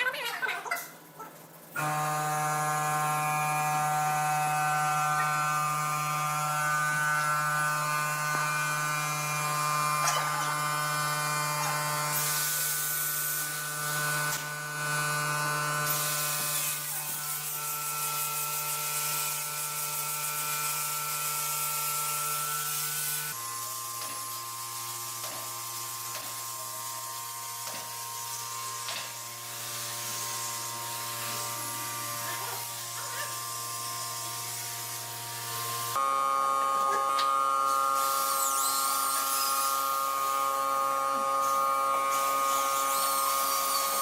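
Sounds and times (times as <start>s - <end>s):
power tool motor cutting wood: 1.8s - 44.0s.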